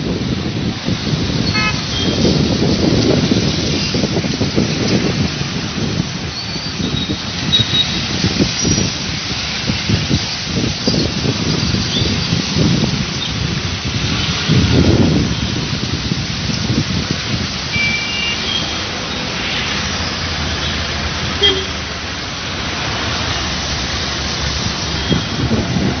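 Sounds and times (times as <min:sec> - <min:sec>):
low rumbling surges: 0:00.0 - 0:26.0
rain noise: 0:00.0 - 0:26.0
tyres hissing on wet road: 0:00.0 - 0:26.0.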